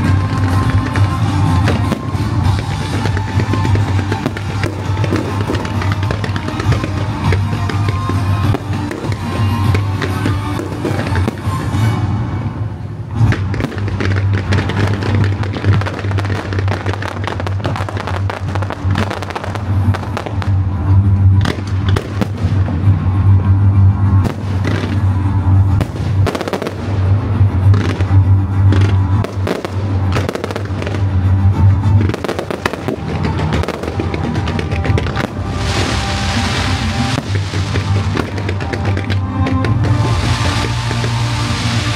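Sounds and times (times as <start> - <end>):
loud music with heavy bass: 0.0 - 12.1, 13.1 - 41.9
fireworks banging: 0.0 - 41.9.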